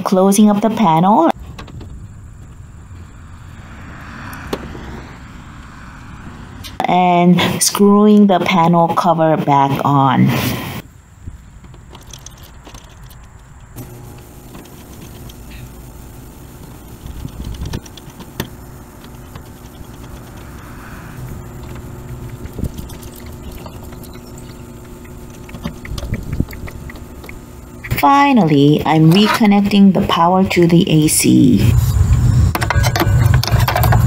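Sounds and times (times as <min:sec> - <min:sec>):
steady low hum: 0:00.0 - 0:32.5.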